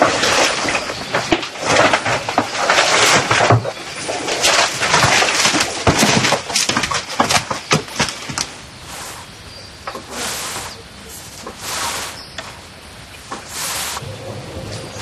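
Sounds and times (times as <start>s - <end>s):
rustling and crackling undergrowth: 0.0s - 15.0s.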